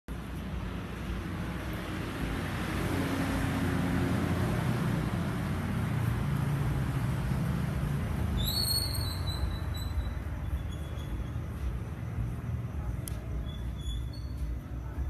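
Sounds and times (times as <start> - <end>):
road and wind noise: 0.1 - 15.0.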